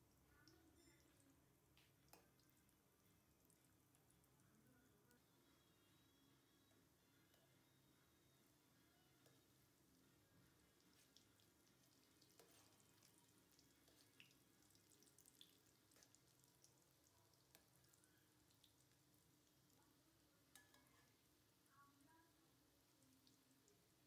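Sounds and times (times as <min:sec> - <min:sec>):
faint deep-frying sizzle: 0:00.0 - 0:24.0.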